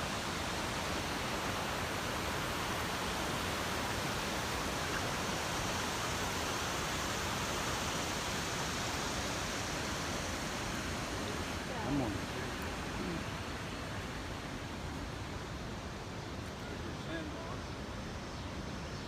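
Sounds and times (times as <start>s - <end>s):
river water rushing over rapids: 0.0s - 19.0s.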